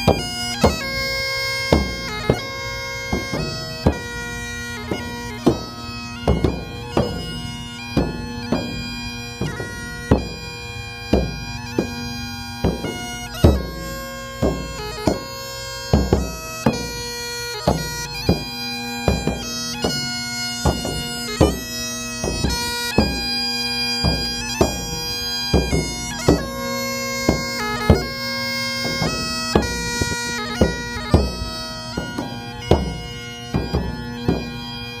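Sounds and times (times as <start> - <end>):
drum beat: 0.0 - 10.5, 11.1 - 23.3, 24.0 - 34.6
bagpipe melody with drone: 0.0 - 35.0.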